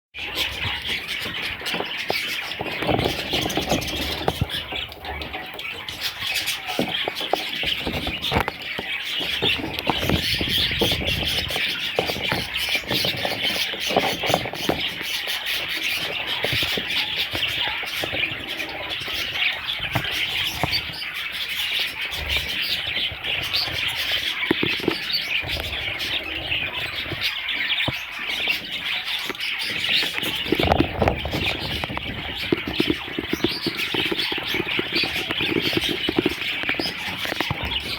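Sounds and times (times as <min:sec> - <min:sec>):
budgerigars chattering and chirping: 0:00.2 - 0:37.9.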